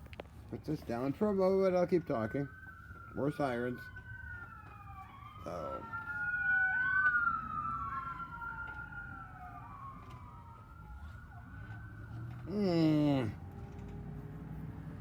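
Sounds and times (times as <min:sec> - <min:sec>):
emergency vehicle sirens wailing: 0:00.1 - 0:15.0.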